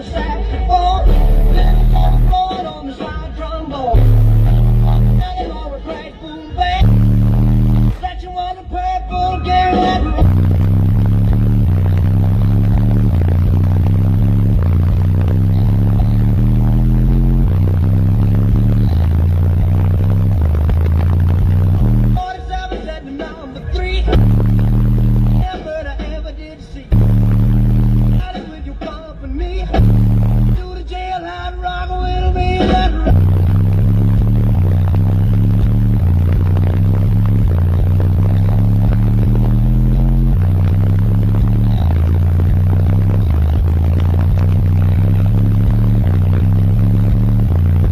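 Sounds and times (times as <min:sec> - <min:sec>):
bass-heavy music on car audio: 0:00.0 - 0:47.9.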